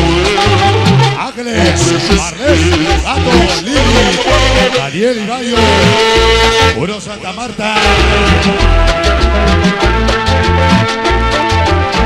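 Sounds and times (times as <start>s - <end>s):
dance music: 0.0s - 12.0s.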